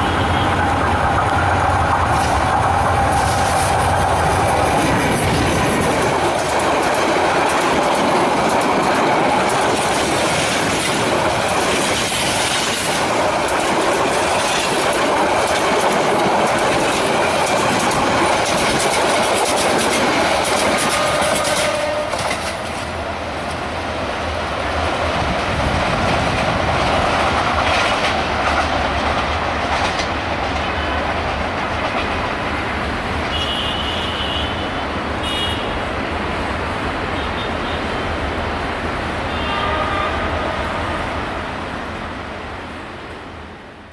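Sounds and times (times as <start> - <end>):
low rumble of distant train: 0.0 - 34.1, 34.8 - 43.9
train coaches rushing past: 0.0 - 43.9.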